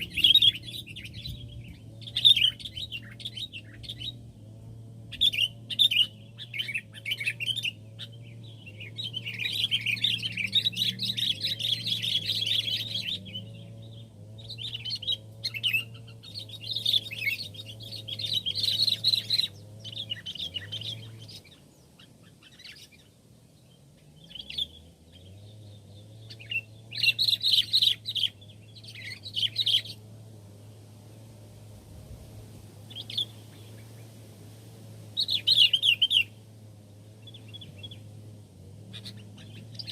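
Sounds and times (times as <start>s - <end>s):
steady low hum: 0.0s - 24.3s, 24.9s - 39.9s
bulbuls chirping: 0.0s - 31.8s, 32.5s - 39.9s.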